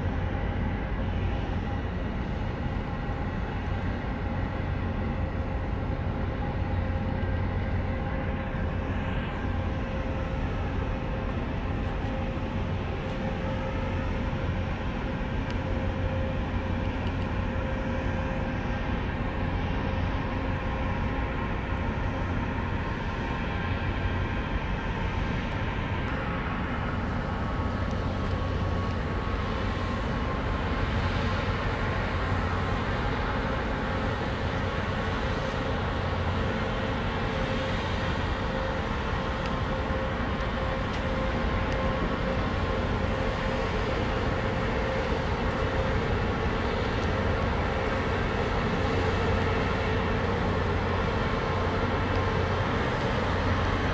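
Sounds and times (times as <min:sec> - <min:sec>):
ship machinery drone: 0:00.0 - 0:53.9.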